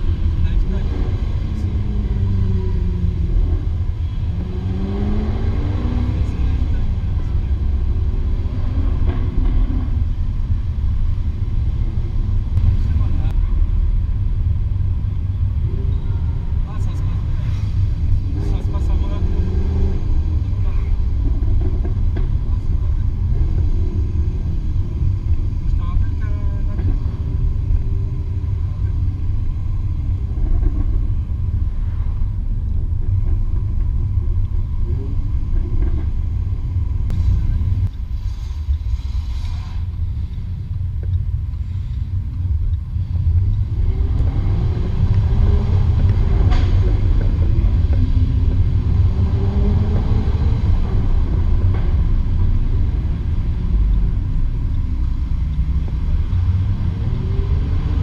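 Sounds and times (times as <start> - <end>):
car exhaust rumble: 0.0 - 58.0.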